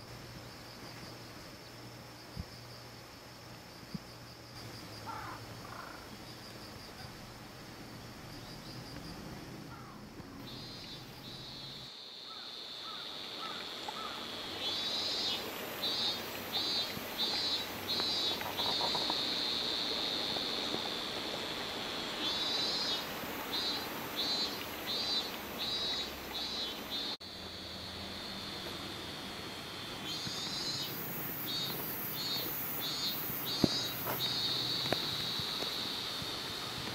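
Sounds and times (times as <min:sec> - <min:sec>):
cicada pulsing call: 0:00.0 - 0:36.9
cicadas steady high buzz: 0:00.0 - 0:36.9.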